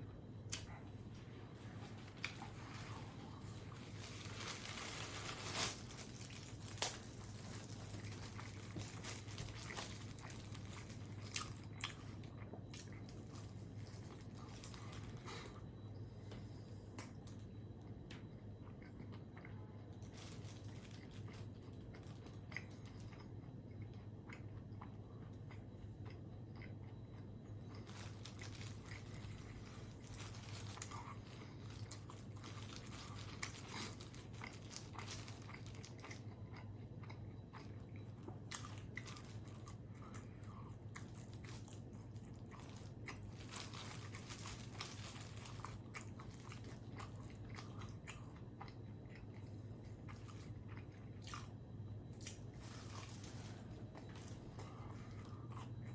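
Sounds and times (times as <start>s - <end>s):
faint low hum: 0.0s - 55.9s
chewing and crunching food: 0.1s - 55.9s.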